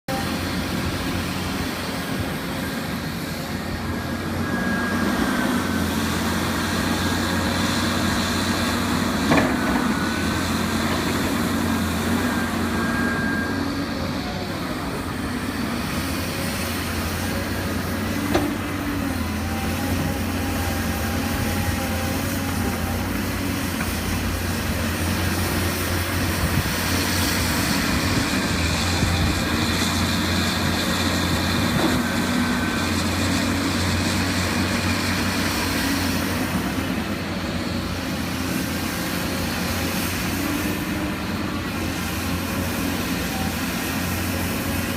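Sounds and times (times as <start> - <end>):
excavator diesel engine whining: 0.0 - 44.9.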